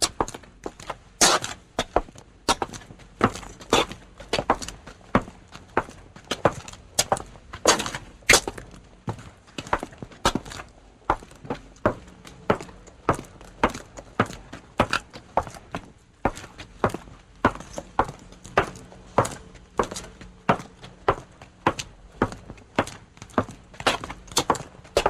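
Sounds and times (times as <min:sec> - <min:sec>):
footsteps with sharp heel impacts: 0:00.0 - 0:25.0.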